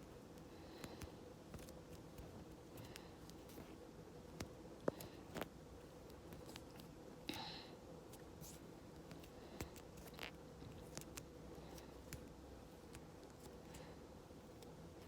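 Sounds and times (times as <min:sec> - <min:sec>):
faint clicks and taps: 0:00.3 - 0:06.9, 0:08.1 - 0:13.8.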